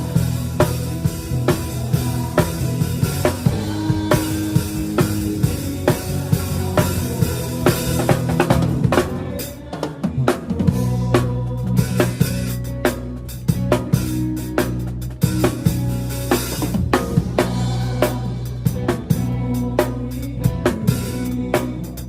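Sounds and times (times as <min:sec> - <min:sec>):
band holding low notes: 0:00.0 - 0:22.0
drum kit beat: 0:00.0 - 0:22.0.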